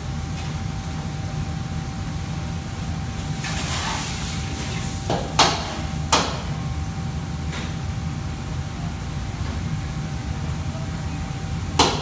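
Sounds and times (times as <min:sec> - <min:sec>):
wok burner and extractor noise: 0:00.0 - 0:12.0.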